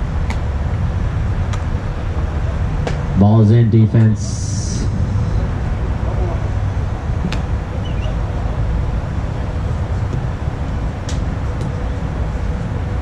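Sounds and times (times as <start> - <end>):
faint steady hum: 0.0 - 13.0
low rumbling background noise: 0.0 - 13.0.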